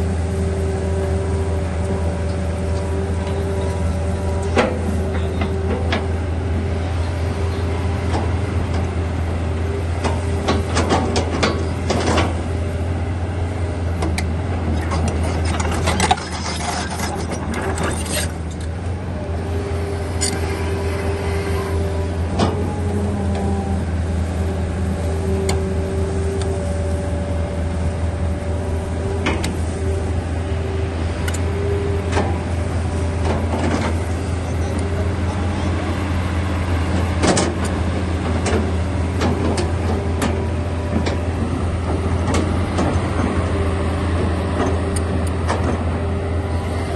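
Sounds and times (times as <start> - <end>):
excavator engine humming: 0.0 - 46.9.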